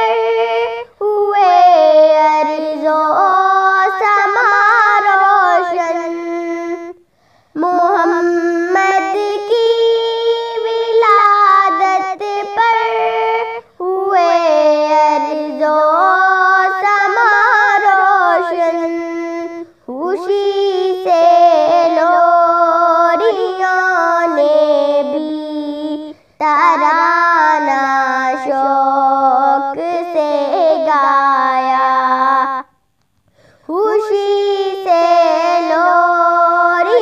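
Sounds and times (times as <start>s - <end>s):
girl singing unaccompanied: 0.0s - 37.0s.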